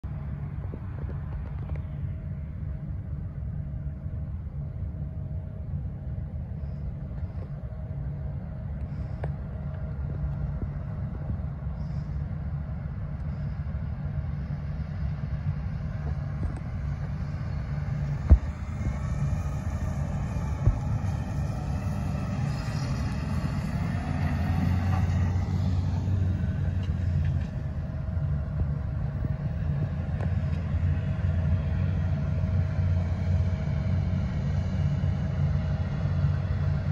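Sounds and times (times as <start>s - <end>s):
combine harvester running: 0.0s - 36.9s
tractor passing: 0.0s - 36.9s.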